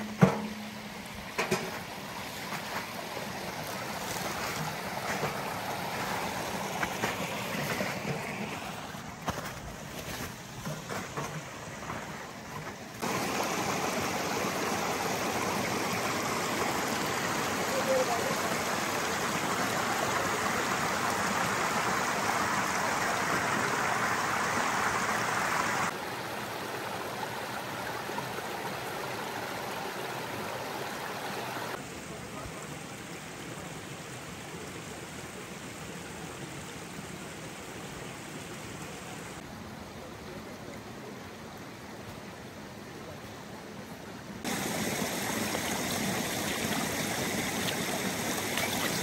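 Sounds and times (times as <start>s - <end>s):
rushing stream water: 0.0s - 49.0s.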